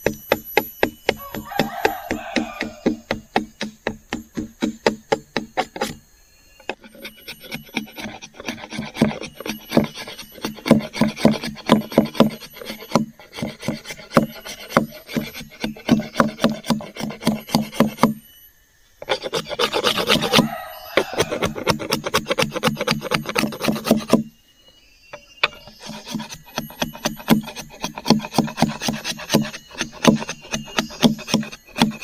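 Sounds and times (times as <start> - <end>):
machete scraping wooden stick: 0.0 - 18.2, 19.0 - 24.3, 25.1 - 32.0.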